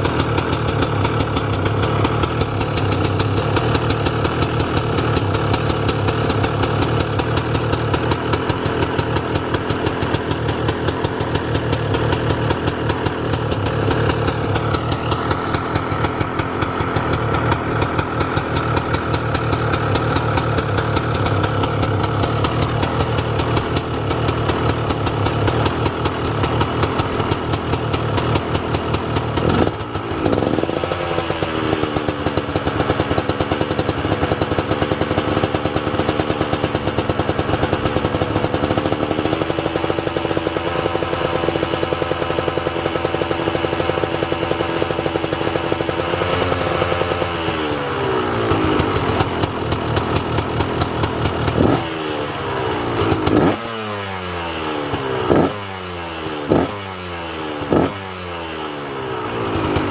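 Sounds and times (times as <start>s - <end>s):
two-stroke engine idling: 0.0s - 59.9s.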